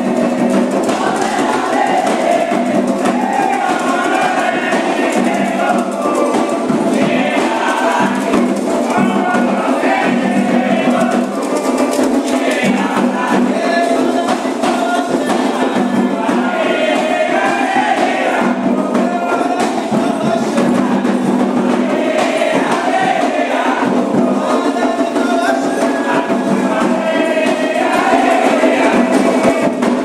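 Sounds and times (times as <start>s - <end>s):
dense percussion: 0.0s - 30.0s
group of voices chanting: 0.0s - 30.0s.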